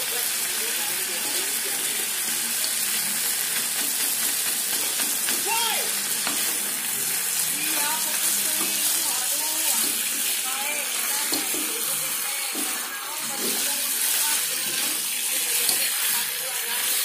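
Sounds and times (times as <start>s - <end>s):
meat sizzling in a wok: 0.0s - 17.0s.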